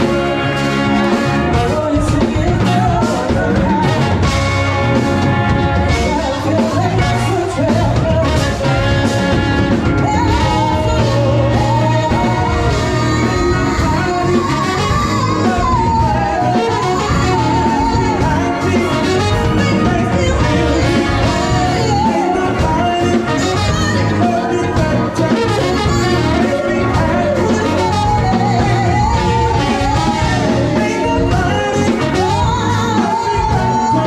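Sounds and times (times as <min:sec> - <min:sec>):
band playing with singer: 0:00.0 - 0:34.0.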